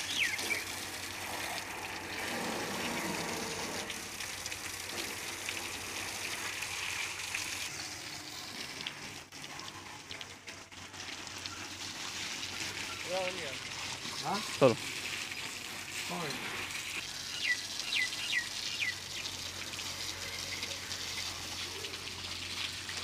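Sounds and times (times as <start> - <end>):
hose water spraying on metal: 0.0 - 23.0.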